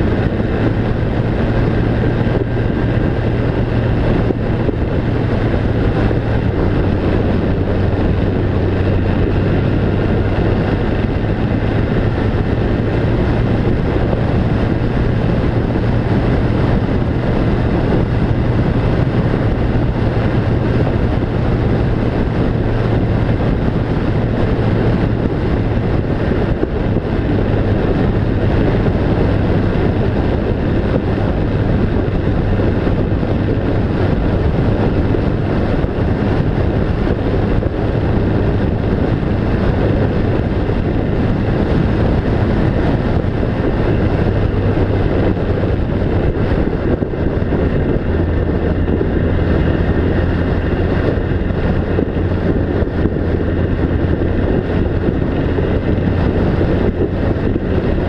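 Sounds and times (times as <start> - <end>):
wind rushing: 0.0 - 58.0.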